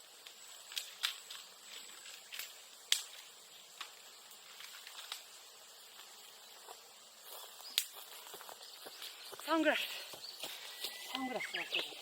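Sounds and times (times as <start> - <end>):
brush fire crackling: 0.0 - 12.0.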